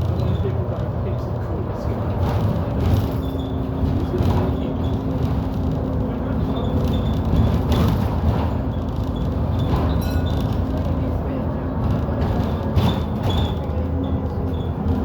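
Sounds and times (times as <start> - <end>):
bus engine low hum: 0.0 - 15.0
road rumble: 0.0 - 15.0.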